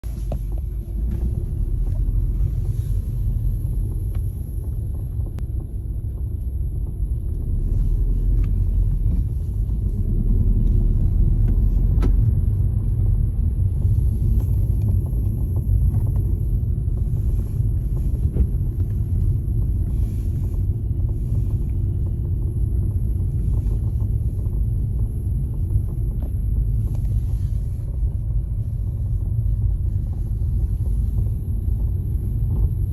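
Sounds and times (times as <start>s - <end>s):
car driving rumble: 0.0s - 32.9s
creaks and clicks inside car: 0.0s - 32.9s.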